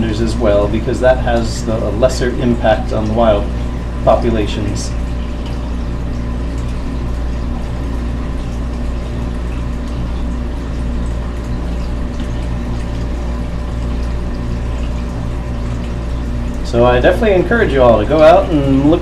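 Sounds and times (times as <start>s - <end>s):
aquarium pumps humming: 0.0s - 19.0s
water running through filters: 0.0s - 19.0s.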